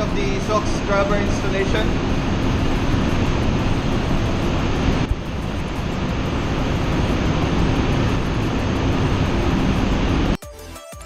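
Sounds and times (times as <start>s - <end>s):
engine-room machinery hum: 0.0s - 10.4s
hiss of running fans: 0.0s - 10.4s.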